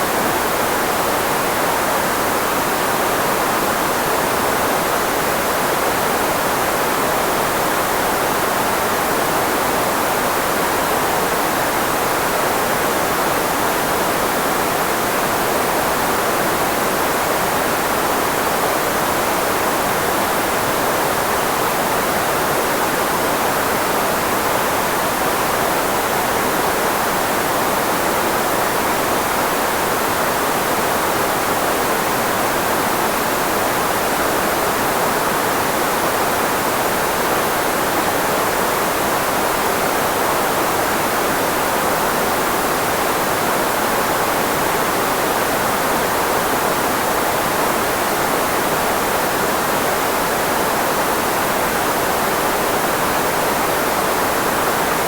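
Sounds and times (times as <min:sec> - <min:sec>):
filtered white noise hiss: 0:00.0 - 0:55.0.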